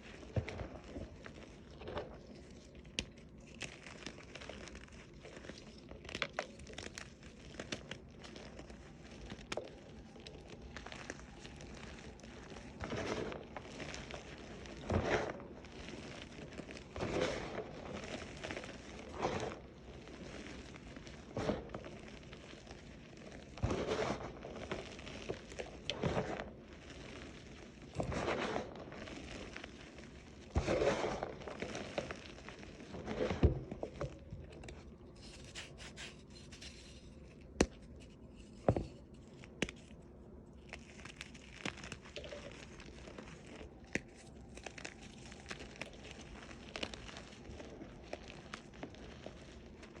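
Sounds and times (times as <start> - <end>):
chalk being crushed: 0.0 - 50.0.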